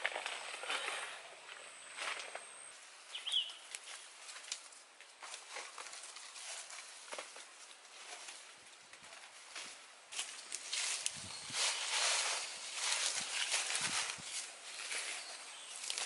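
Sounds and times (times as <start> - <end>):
rustling sticks and leaves: 0.0 - 16.0.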